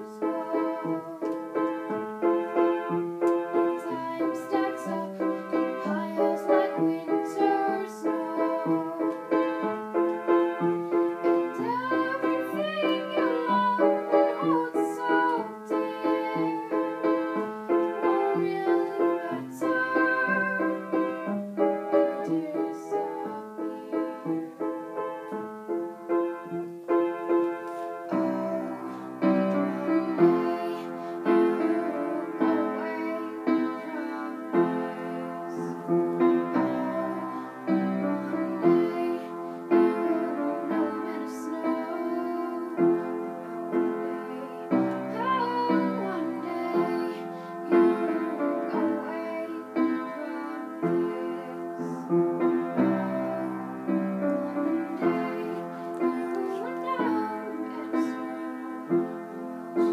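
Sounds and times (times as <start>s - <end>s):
girl singing: 0.0s - 59.9s
upright piano chords: 0.0s - 59.9s.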